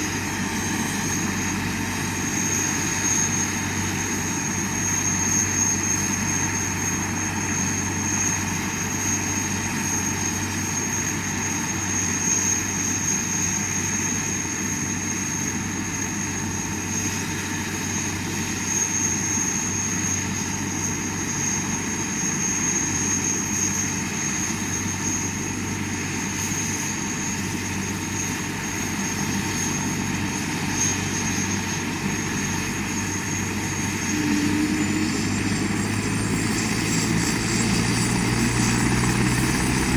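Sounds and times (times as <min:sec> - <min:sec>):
helicopter rotor drone: 0:00.0 - 0:39.9
high engine whine: 0:00.0 - 0:39.9.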